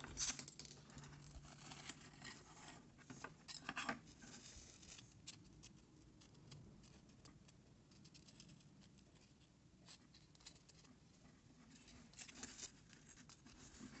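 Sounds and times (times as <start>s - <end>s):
light clicks and scratches: 0.0s - 14.0s.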